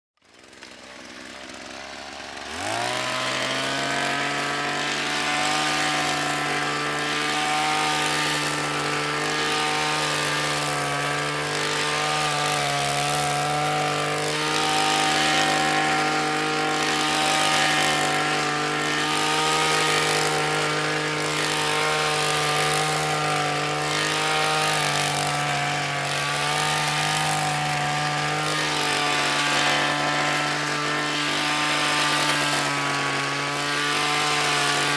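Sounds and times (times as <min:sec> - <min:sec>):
hedge trimmer motor running: 0:00.2 - 0:34.9.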